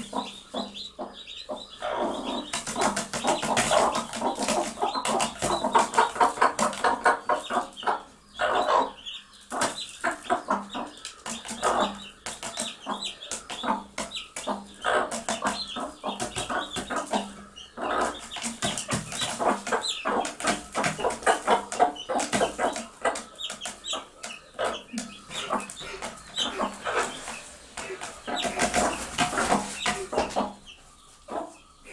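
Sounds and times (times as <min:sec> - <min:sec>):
hens clucking: 0:00.0 - 0:31.9.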